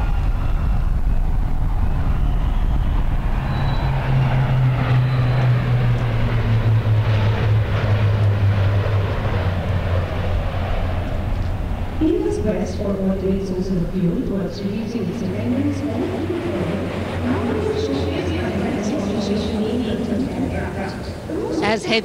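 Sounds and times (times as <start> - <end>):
propeller aircraft drone: 0.0 - 22.0.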